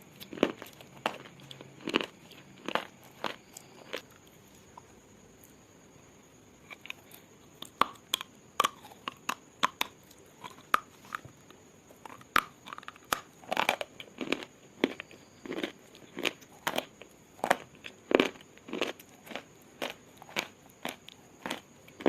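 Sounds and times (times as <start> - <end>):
person chewing something brittle: 0.0 - 5.6, 6.6 - 22.0.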